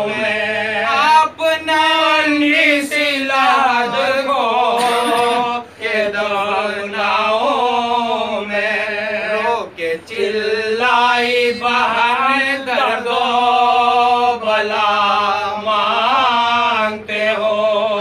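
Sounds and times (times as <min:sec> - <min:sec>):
men chanting unaccompanied: 0:00.0 - 0:18.0.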